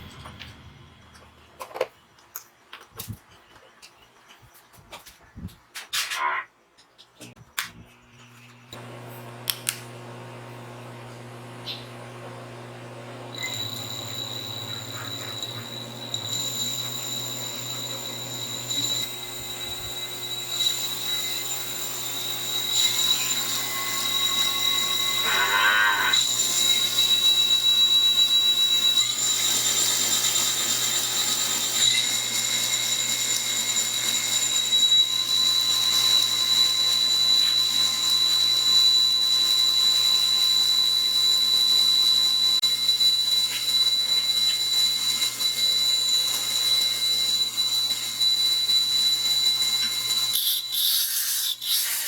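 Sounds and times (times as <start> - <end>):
belt sander whine: 0.0 - 2.0, 7.9 - 50.8.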